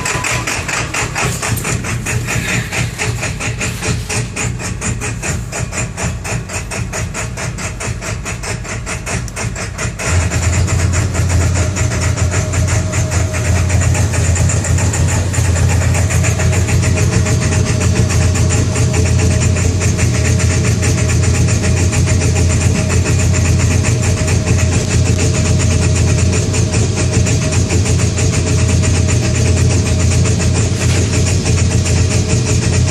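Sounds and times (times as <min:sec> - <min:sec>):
engine idling roughly: 0:00.0 - 0:32.9.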